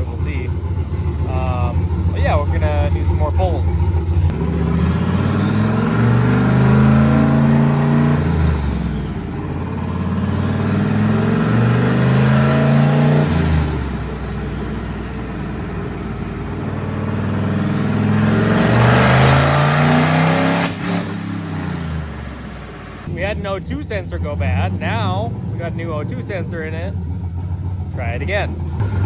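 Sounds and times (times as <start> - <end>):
truck engine revving at full throttle: 0.0 - 29.0.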